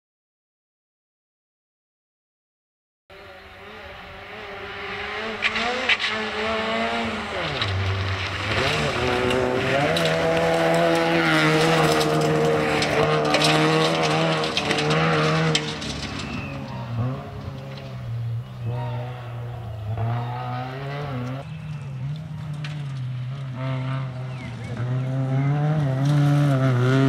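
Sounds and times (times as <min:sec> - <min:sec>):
rally car engine revving: 0:03.1 - 0:27.0
engine crackles: 0:03.4 - 0:27.0.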